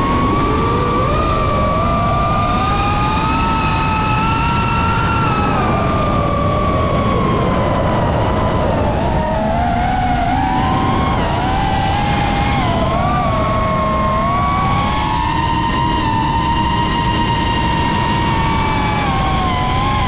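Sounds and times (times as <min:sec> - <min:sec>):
model aircraft engine whine: 0:00.0 - 0:20.0
wind noise: 0:00.0 - 0:20.0.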